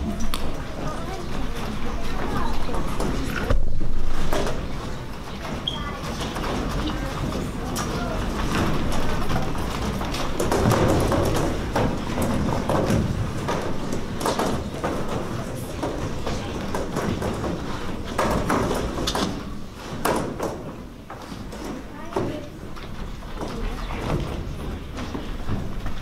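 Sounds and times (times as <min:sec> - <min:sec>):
footsteps on stage: 0:00.0 - 0:26.0
metal folding chairs clattering: 0:00.0 - 0:26.0.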